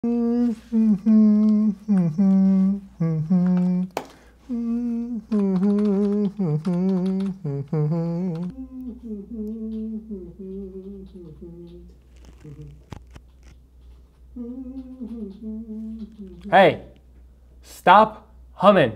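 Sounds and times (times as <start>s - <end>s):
man humming a tune: 0.0s - 13.0s, 14.3s - 16.9s.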